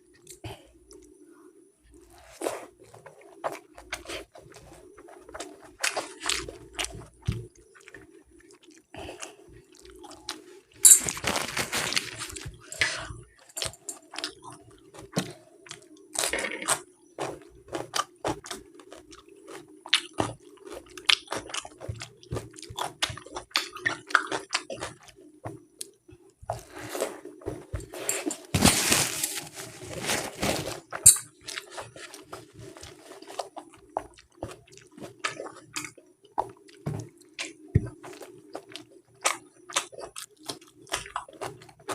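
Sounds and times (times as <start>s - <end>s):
wet chewing and mouth clicks: 2.0s - 28.5s, 30.8s - 41.9s.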